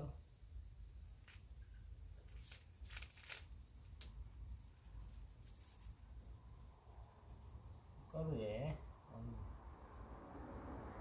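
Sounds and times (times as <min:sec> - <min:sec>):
faint crickets chirping: 0:00.0 - 0:11.0.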